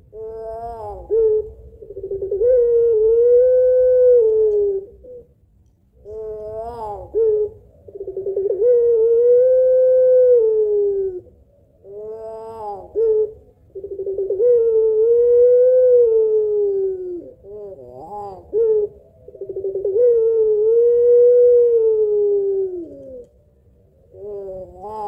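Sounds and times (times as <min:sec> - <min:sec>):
dove cooing: 0:00.0 - 0:05.4, 0:06.0 - 0:25.0.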